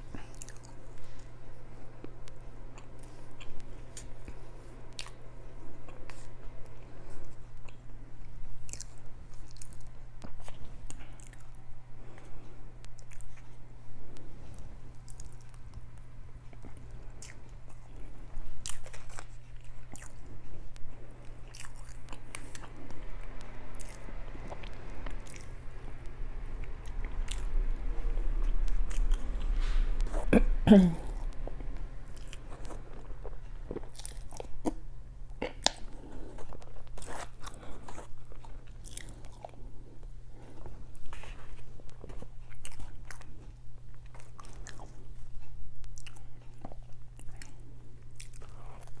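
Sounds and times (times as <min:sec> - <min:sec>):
chewing and mouth clicks: 0:00.0 - 0:01.3, 0:02.0 - 0:30.3, 0:31.0 - 0:49.0
refrigerator hum: 0:00.0 - 0:49.0.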